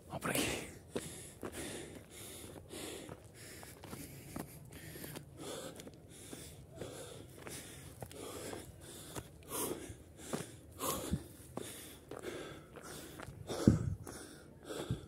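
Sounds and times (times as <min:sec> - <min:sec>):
person breathing hard: 0:00.2 - 0:15.0
footsteps clicking on ground: 0:00.3 - 0:15.0.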